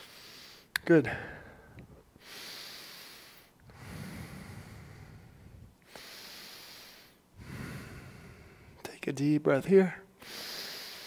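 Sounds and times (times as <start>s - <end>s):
man breathing deeply: 0.0s - 8.8s, 10.2s - 11.0s.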